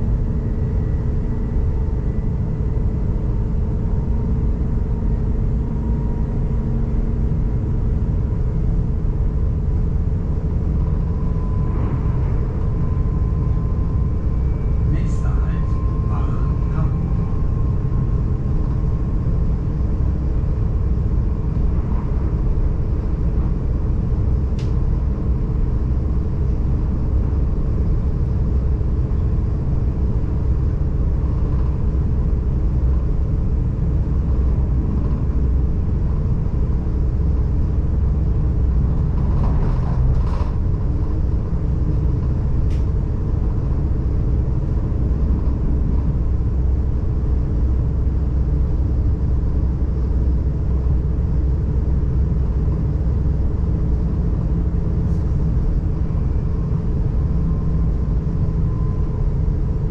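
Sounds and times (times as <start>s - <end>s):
train rumbling at speed: 0.0s - 59.9s.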